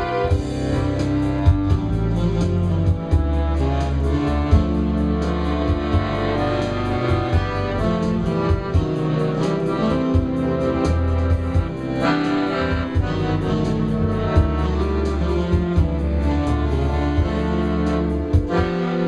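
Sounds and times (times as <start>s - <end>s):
accordion playing melody: 0.0s - 19.0s
bass: 0.0s - 19.0s
steady drum beat: 0.0s - 19.0s.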